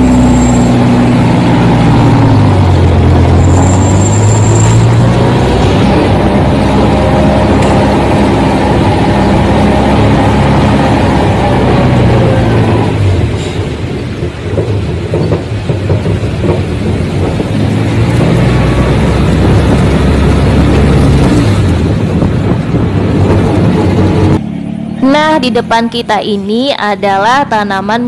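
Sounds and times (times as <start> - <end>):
road noise: 0.0 - 28.0
truck engine drone: 0.0 - 28.0.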